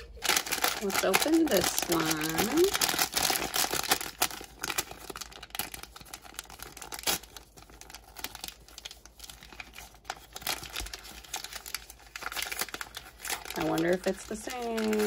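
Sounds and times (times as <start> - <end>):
plastic packet crinkling and tearing: 0.0 - 15.0.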